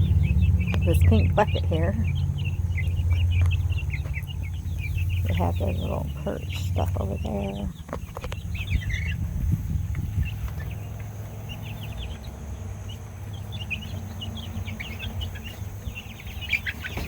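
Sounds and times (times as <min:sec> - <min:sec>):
steady low rumble: 0:00.0 - 0:16.7
baby chicks peeping: 0:00.0 - 0:17.0.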